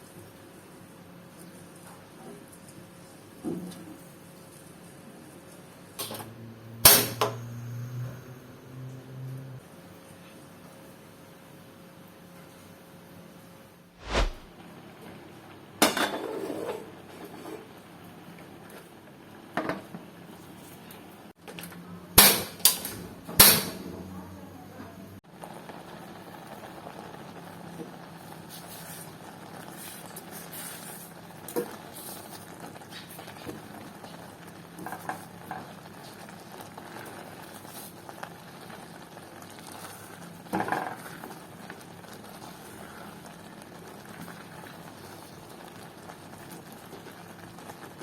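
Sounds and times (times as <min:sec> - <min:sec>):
water boiling in a pot: 0:00.0 - 0:13.4, 0:14.8 - 0:24.6, 0:25.2 - 0:48.0.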